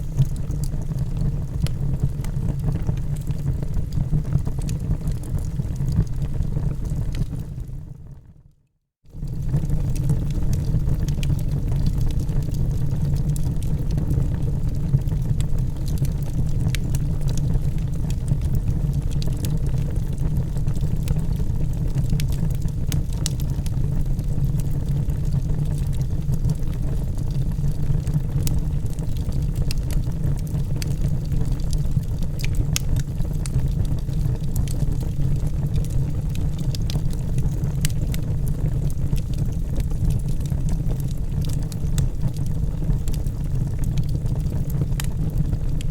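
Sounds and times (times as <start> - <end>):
fire crackles and pops: 0.0 - 8.1, 9.1 - 45.9
low rumble of flames: 0.0 - 8.4, 9.1 - 45.9.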